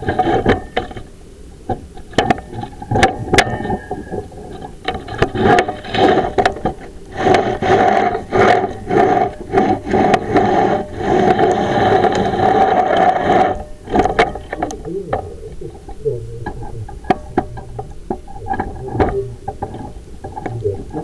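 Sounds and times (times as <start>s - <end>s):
squealing scrape: 0.0s - 1.1s, 2.4s - 21.0s
camera scraping inside flue: 0.0s - 21.0s.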